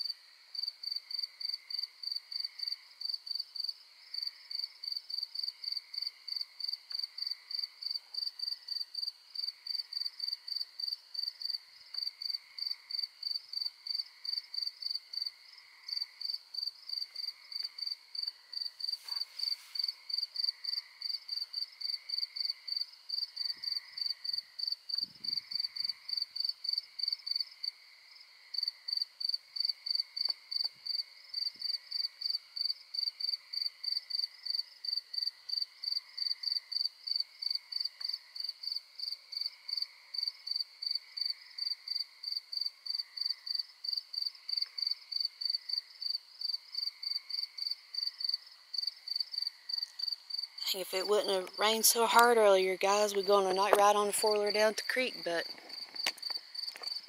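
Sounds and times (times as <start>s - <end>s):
chorus of night insects: 0.0s - 57.0s
cricket chirping: 0.0s - 57.0s.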